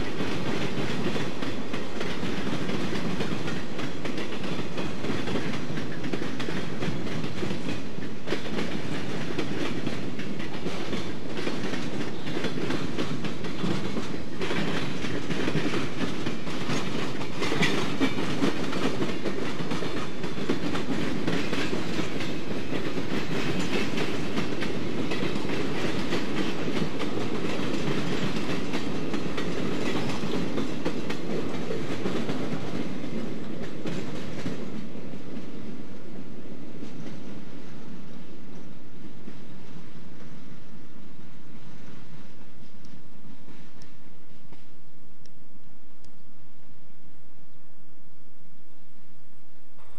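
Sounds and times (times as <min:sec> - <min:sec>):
freight train wheels rattling: 0:00.0 - 0:44.8.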